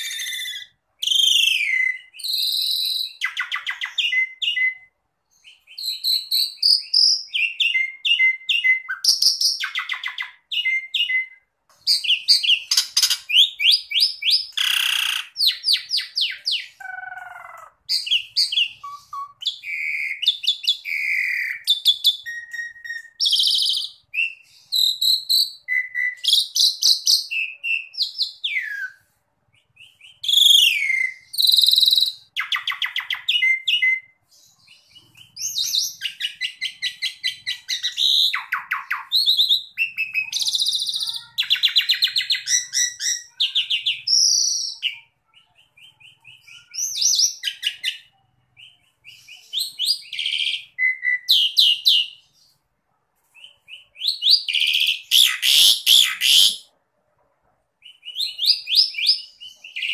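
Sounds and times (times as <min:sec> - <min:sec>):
starling singing: 0:00.0 - 0:52.6, 0:53.4 - 0:56.7, 0:57.8 - 0:59.9.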